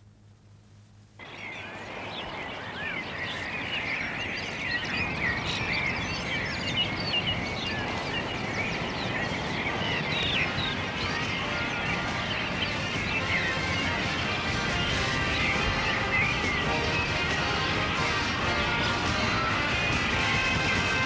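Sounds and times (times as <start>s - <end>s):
steady background hiss: 0.0s - 21.0s
birds singing: 1.2s - 21.0s.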